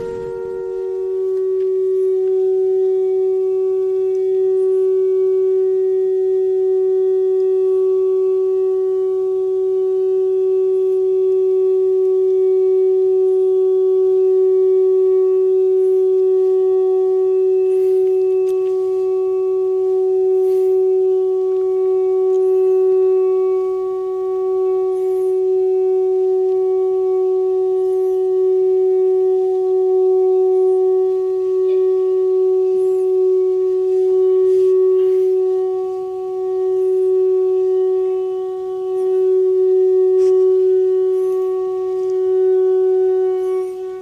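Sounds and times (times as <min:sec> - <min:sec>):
shofar tone: 0:00.0 - 0:44.0.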